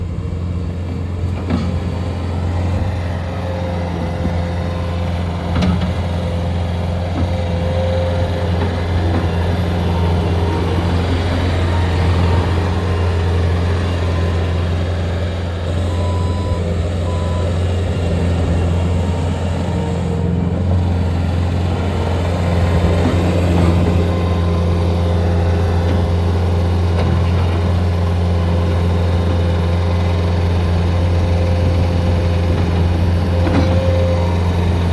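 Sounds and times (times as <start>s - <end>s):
loader diesel engine running: 0.0s - 34.9s.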